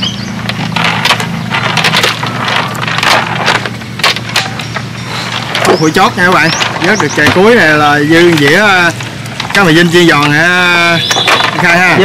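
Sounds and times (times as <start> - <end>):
scraping and clattering knocks: 0.3 - 12.0.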